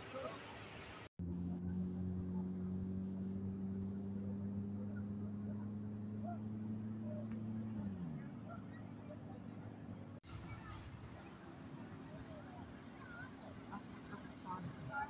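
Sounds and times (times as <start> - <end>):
engine running: 1.2 - 15.0.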